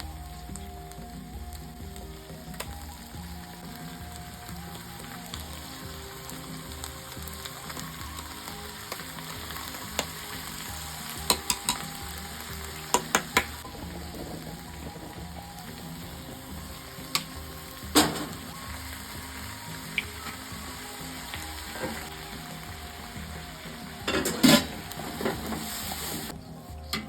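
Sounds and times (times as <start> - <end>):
food sizzling in a pan: 0.0 - 27.0
soft background music: 0.0 - 27.0.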